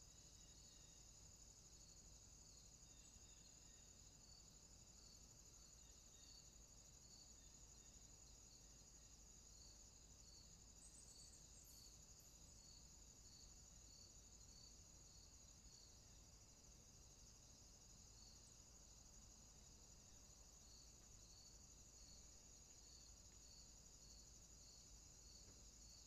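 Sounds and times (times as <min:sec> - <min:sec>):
insect trill and chirps: 0:00.0 - 0:26.0.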